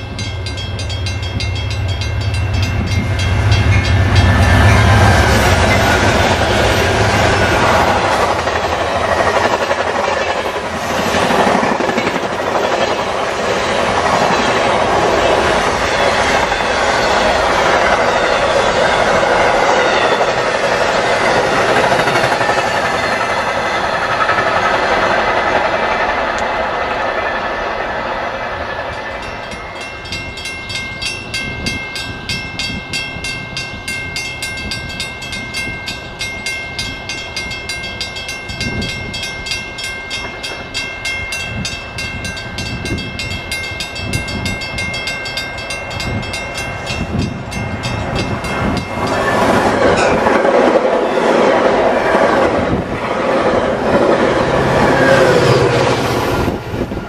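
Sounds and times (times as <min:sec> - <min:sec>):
crossing bell ringing: 0:00.0 - 0:24.7, 0:25.8 - 0:52.2, 0:54.1 - 0:57.0
train running past: 0:00.0 - 0:57.0.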